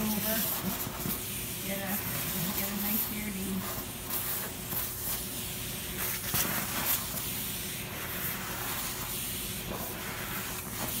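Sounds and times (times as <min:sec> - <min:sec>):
vacuum suction hissing: 0:00.0 - 0:11.0.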